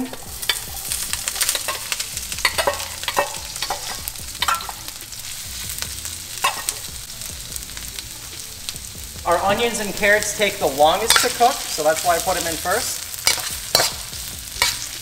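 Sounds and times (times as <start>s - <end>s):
metal spatula scraping a wok: 0.0s - 6.9s, 9.5s - 15.0s
vegetables sizzling in hot oil: 0.0s - 15.0s.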